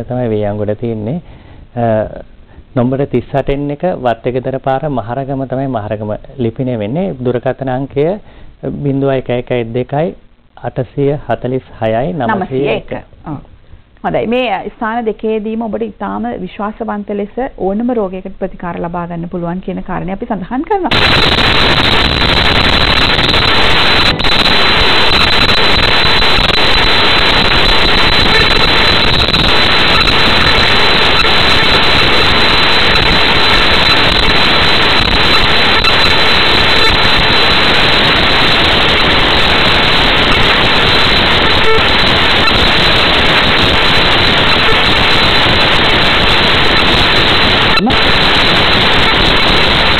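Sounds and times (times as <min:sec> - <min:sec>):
static hiss: 0:00.0 - 0:49.9.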